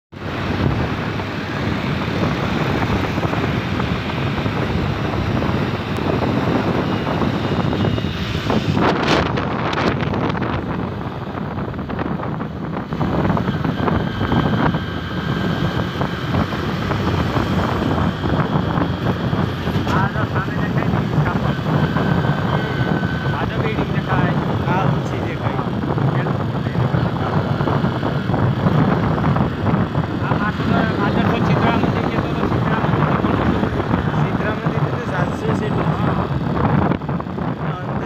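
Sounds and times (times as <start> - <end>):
vehicle road noise: 0.1 - 38.0
wind rushing on microphone: 0.1 - 38.0.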